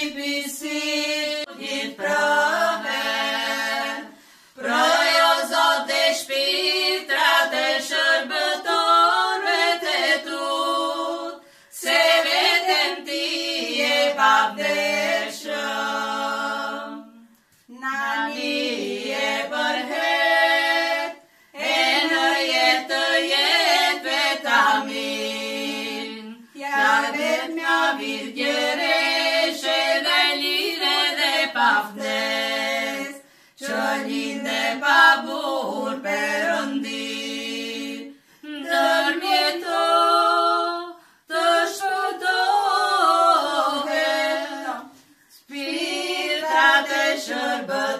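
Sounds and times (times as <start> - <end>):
women singing a cappella: 0.0 - 47.9.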